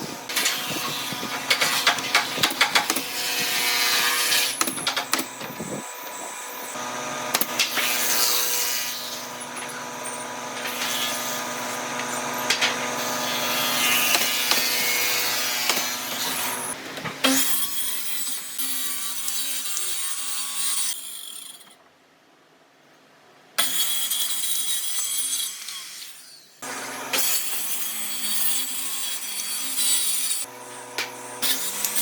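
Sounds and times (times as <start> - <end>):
wood being cut: 0.0 - 21.0, 23.6 - 32.0.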